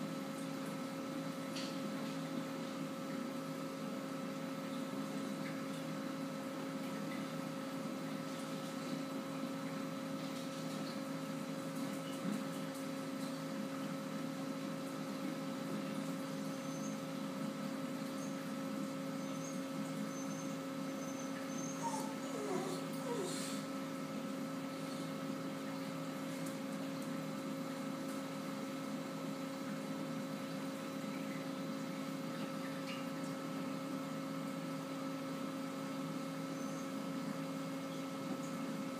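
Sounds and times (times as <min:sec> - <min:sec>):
aquarium equipment hum: 0:00.0 - 0:38.9.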